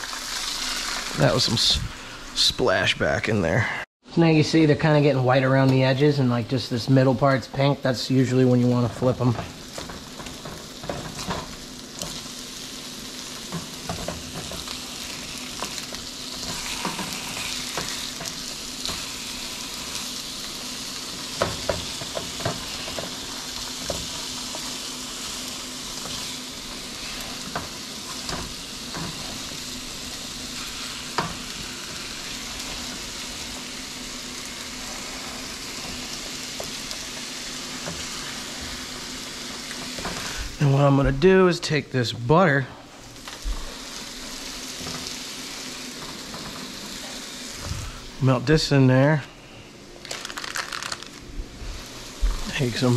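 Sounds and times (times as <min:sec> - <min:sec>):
fish sizzling in hot oil: 0:00.0 - 0:02.3, 0:08.2 - 0:40.8, 0:43.0 - 0:48.4, 0:49.7 - 0:52.9.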